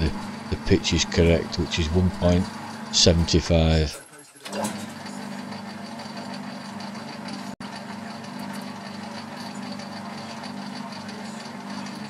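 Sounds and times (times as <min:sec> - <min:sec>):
lathe humming: 0:00.0 - 0:03.9, 0:04.5 - 0:12.0
faint high gear whine: 0:00.0 - 0:12.0.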